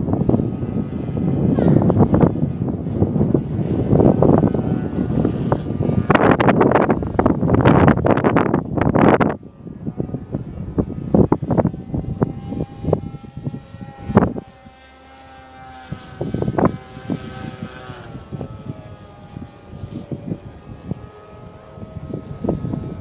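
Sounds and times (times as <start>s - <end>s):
model plane motor whining: 0.0s - 23.0s
wind buffeting microphone: 0.0s - 23.0s.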